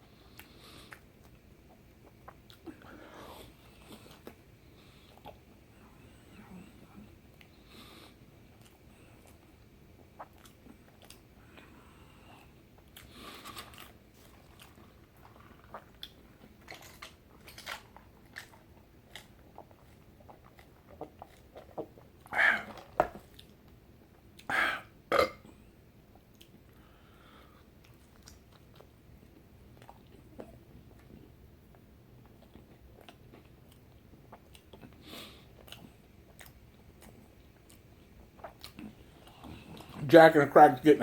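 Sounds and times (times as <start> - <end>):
person chewing food: 0.1 - 5.7, 7.3 - 24.5, 26.1 - 40.0.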